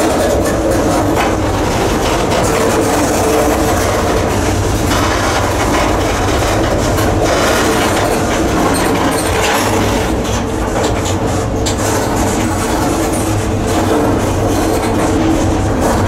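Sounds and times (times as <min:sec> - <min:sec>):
rail car clanking: 0:00.0 - 0:16.0
steel wheels rumbling on rails: 0:00.0 - 0:16.0.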